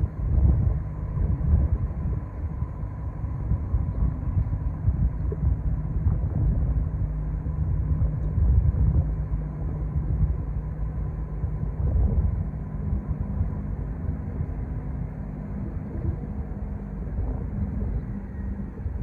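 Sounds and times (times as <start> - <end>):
faint steady hum: 0.0 - 19.0
ship engine rumbling: 0.0 - 19.0
wind on microphone: 0.0 - 19.0.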